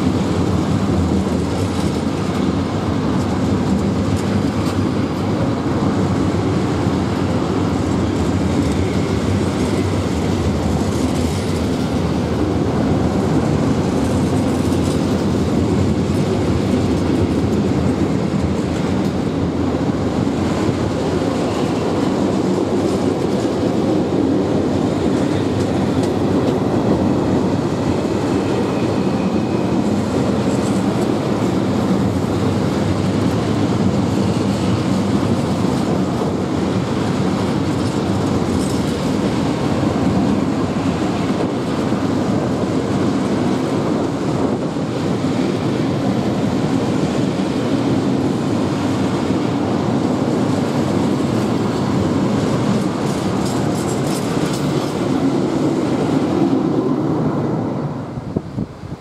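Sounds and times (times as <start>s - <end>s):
wheels clattering on rails: 0.0s - 56.8s
freight train rolling past: 0.0s - 59.0s.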